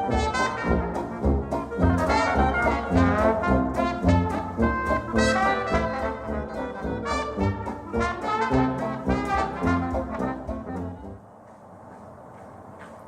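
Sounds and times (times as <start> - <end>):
jazz band playing: 0.0 - 11.2
jazz trombone melody: 0.0 - 11.2.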